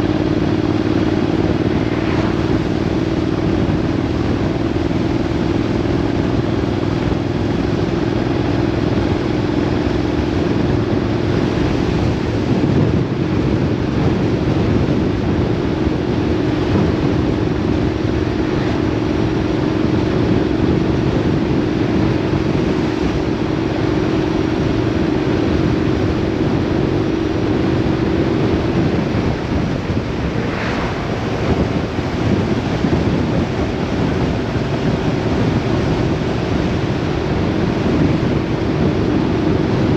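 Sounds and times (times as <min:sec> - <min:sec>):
droning engine hum: 0:00.0 - 0:39.9
wind rushing over microphone: 0:00.0 - 0:39.9.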